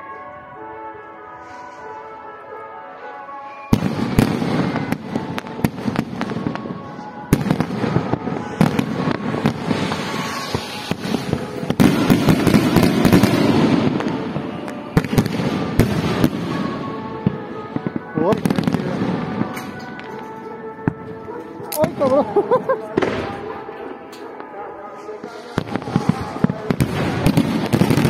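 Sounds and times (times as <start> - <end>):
music: 0.0 - 28.0
fireworks bangs and crackling: 1.4 - 28.0.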